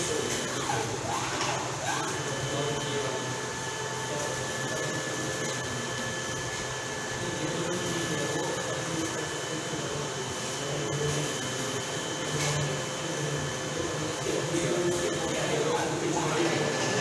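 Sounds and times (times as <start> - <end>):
machine whir: 0.0 - 17.0.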